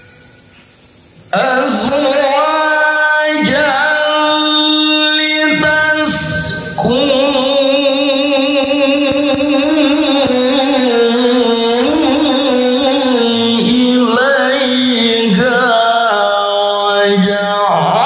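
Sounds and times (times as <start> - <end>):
man reciting melodically into microphone: 1.2 - 18.0.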